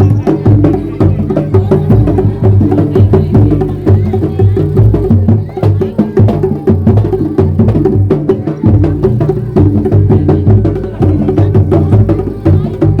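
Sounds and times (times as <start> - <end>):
percussion music: 0.0 - 13.0.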